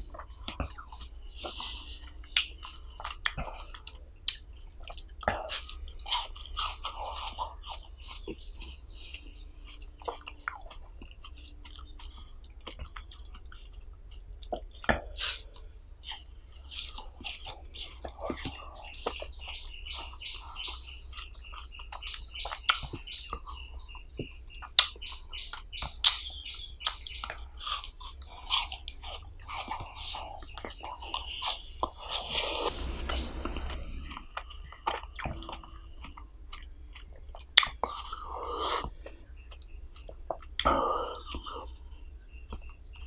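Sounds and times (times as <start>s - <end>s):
chewing frozen ice pop: 0.1s - 33.5s, 34.9s - 41.8s.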